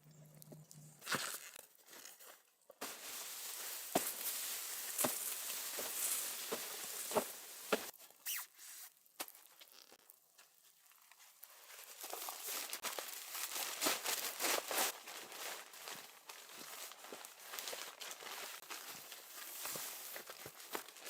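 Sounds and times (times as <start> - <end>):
crunching and rustling: 0.3 - 8.2, 9.2 - 21.0.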